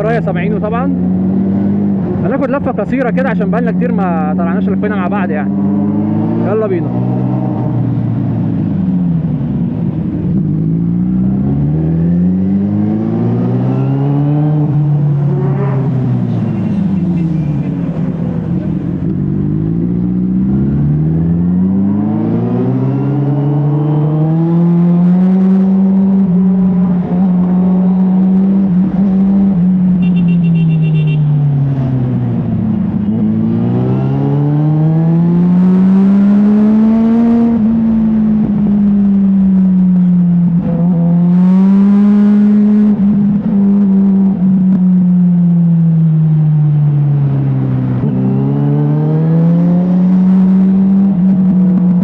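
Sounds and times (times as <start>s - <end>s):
motorcycle engine accelerating: 0.0s - 2.4s, 3.2s - 52.0s.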